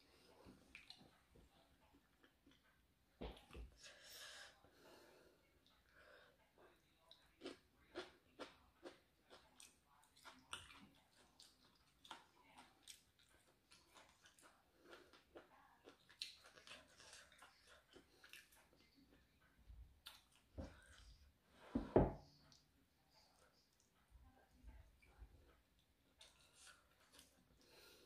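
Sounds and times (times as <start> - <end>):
faint chewing: 0.0 - 28.0.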